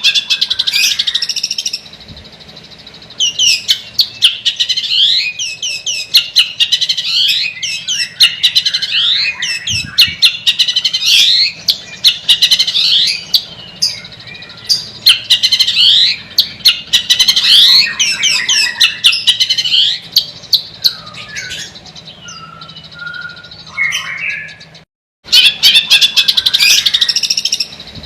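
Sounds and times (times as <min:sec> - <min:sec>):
bird singing chattering song: 0:00.0 - 0:28.0.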